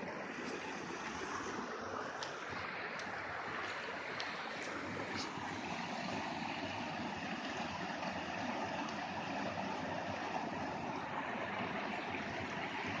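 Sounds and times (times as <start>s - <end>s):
rainwater rushing: 0.0s - 13.0s.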